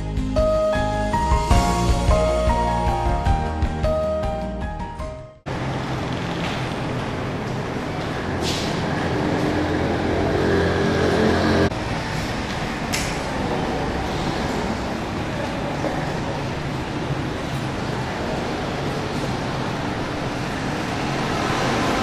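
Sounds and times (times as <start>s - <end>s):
road traffic noise: 0.2s - 22.0s
vehicle engine humming: 0.4s - 22.0s.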